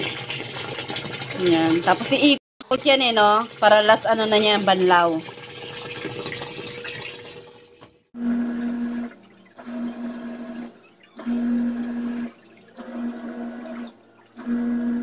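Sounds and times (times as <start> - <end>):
water swishing: 0.0 - 7.8, 8.4 - 14.5
washing machine motor humming: 0.0 - 15.0.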